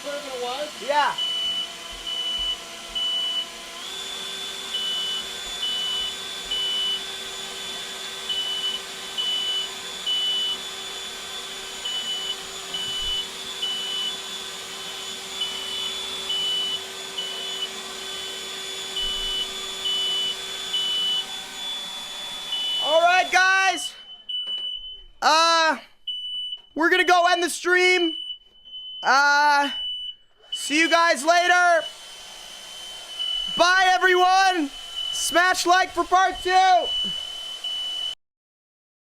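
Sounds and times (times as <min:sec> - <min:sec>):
smoke alarm beeping: 0:01.1 - 0:32.0, 0:33.1 - 0:38.2.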